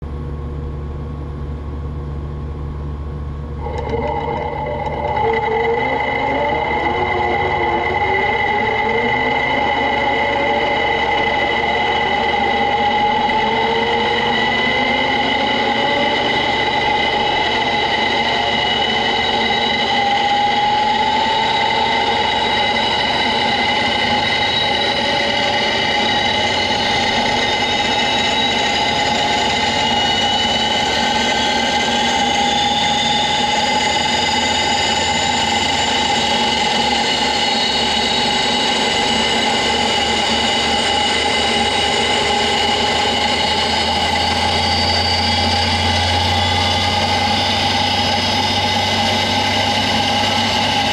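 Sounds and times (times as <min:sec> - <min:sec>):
gear mechanical whine: 0:02.5 - 0:50.9.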